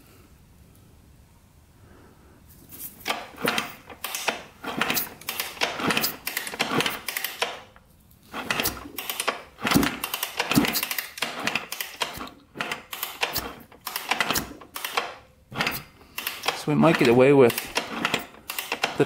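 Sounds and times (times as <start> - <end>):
rapid mechanical clicks and rattles: 3.0 - 7.7, 8.3 - 19.0
engine turned over by hand: 3.0 - 19.0.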